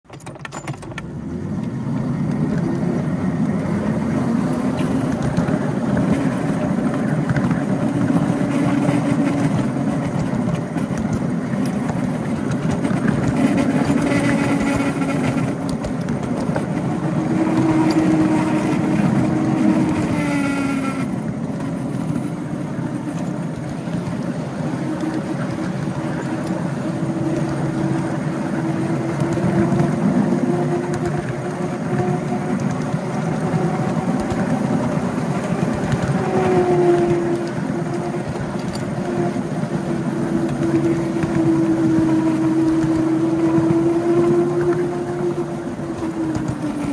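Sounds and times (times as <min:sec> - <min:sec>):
wheel and rail noise: 0:00.0 - 0:46.9
miniature locomotive drive hum: 0:00.1 - 0:46.9.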